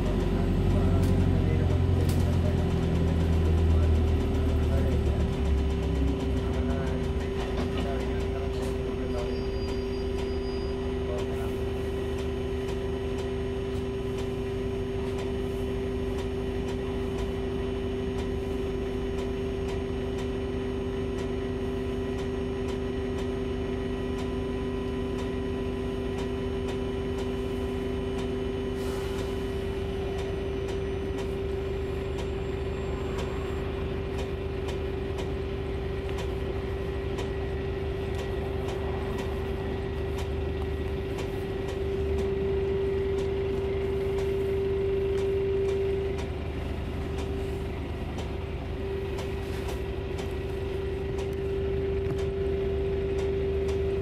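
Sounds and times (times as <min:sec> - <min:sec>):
bus cabin hum: 0:00.0 - 0:54.0
constant whine: 0:00.0 - 0:54.0
low tone: 0:00.0 - 0:54.0.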